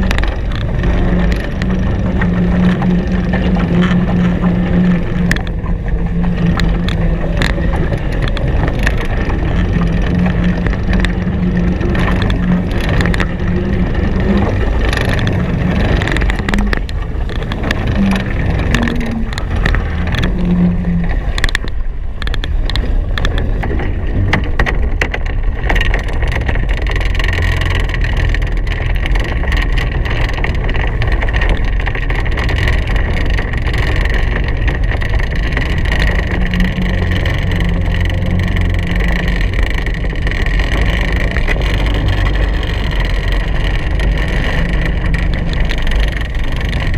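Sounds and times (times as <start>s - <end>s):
low hum: 0.0s - 46.9s
water rushing past hulls: 0.0s - 46.9s
wind buffeting microphone: 0.0s - 46.9s.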